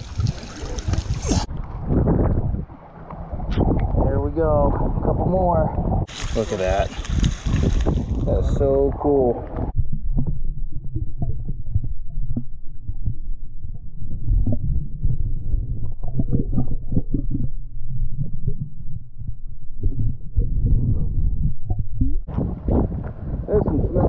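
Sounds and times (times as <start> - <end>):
knocks and clicks underwater: 0.0 - 4.1, 4.7 - 23.9
muffled underwater flowing water: 0.0 - 24.0.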